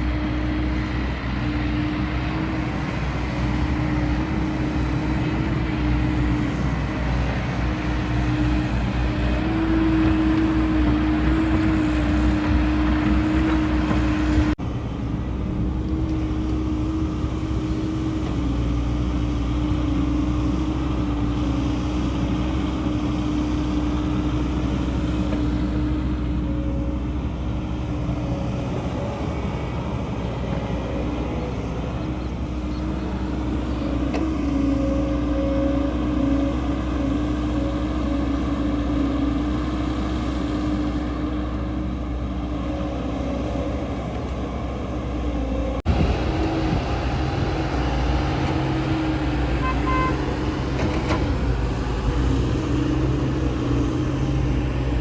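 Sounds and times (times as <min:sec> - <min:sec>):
diesel digger engine running: 0:00.0 - 0:55.0.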